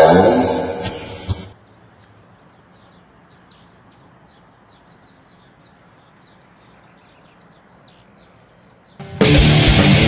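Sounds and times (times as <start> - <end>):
birds chirping: 0.0 - 10.0
faint outdoor background hiss: 0.0 - 10.0.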